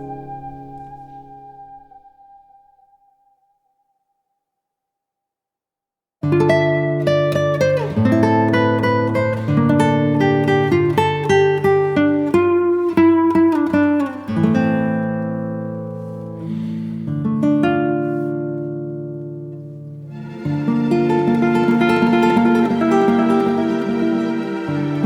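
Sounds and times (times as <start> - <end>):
acoustic guitar plucked: 0.0 - 2.1, 6.2 - 25.0.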